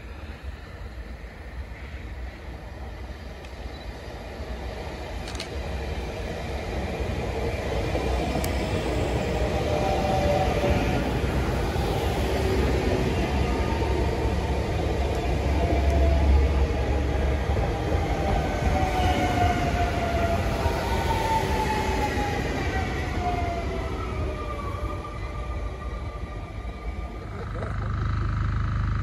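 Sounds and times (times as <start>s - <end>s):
train passing by: 0.0s - 27.7s.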